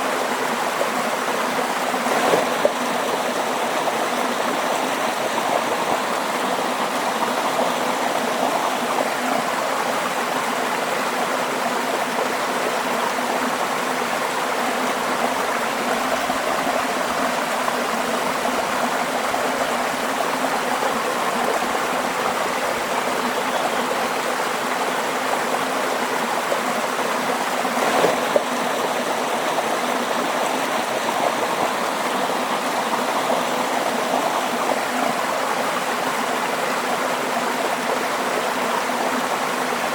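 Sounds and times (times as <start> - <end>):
waterfall rushing: 0.0 - 10.9, 13.3 - 36.5.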